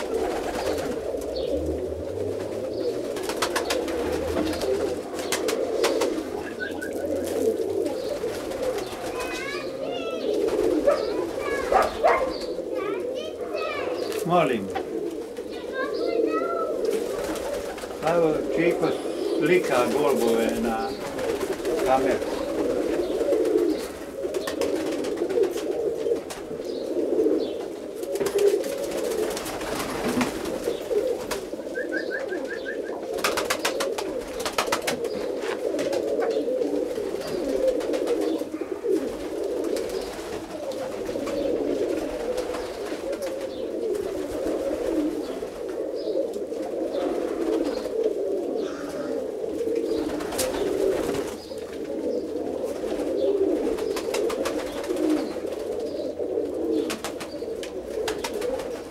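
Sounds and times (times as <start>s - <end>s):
pigeons cooing: 0.0s - 58.9s.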